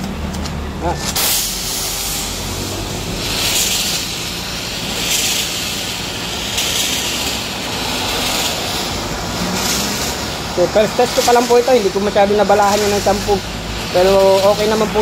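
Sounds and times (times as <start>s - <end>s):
foam spray hissing: 0.8s - 15.0s.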